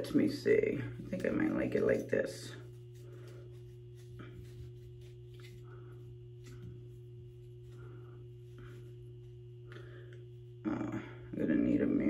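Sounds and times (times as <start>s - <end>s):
steady low hum: 0.0s - 12.0s
wig hair rustling: 0.7s - 10.7s.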